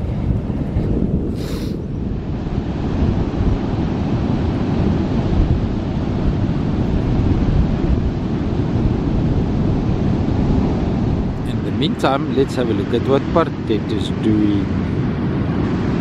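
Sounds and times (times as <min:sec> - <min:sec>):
surf breaking on a beach: 0:00.0 - 0:16.0
wind buffeting microphone: 0:00.0 - 0:16.0.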